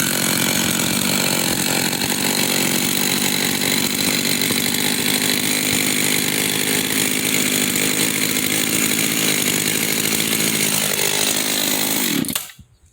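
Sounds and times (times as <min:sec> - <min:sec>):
chainsaw running: 0:00.0 - 0:12.6.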